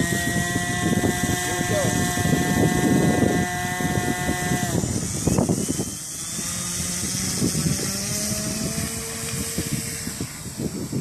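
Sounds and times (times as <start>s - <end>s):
model airplane motor whine: 0.0s - 11.0s
wind gusts on microphone: 0.0s - 11.0s.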